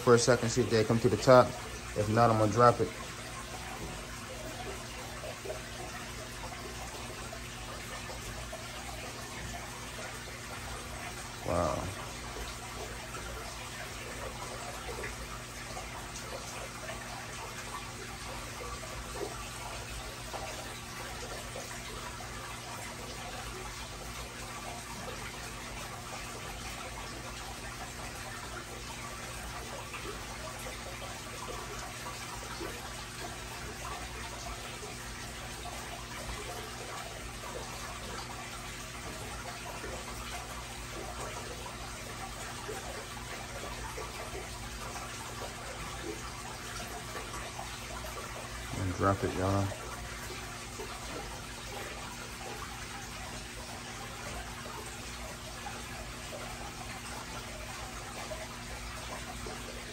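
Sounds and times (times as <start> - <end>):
aquarium water trickling and splashing: 0.0 - 59.9.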